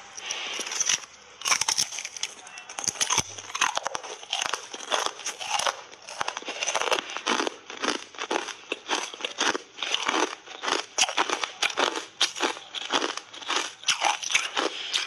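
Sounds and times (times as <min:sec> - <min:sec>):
ice crunching between teeth: 0:00.2 - 0:15.0.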